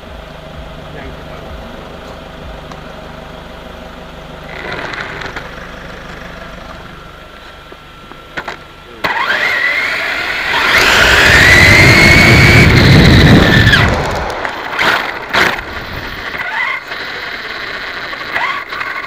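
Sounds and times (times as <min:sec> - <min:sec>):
electric motor whine: 0:00.0 - 0:19.0
tyres rumbling on asphalt: 0:00.0 - 0:19.0.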